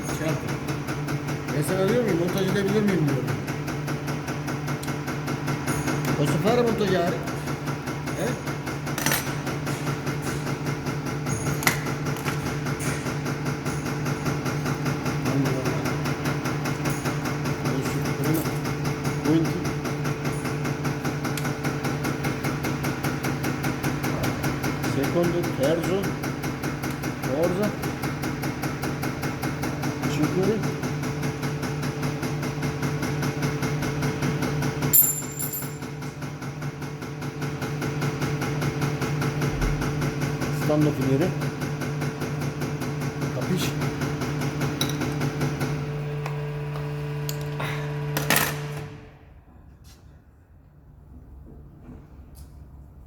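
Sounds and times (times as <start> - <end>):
workshop machine humming and pulsing: 0.0 - 53.0.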